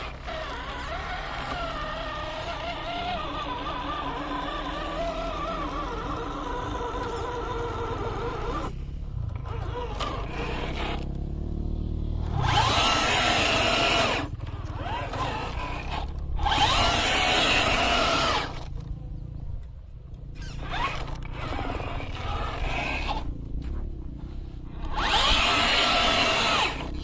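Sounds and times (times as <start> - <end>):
rc car motor whining: 0.0 - 19.0, 20.2 - 27.0.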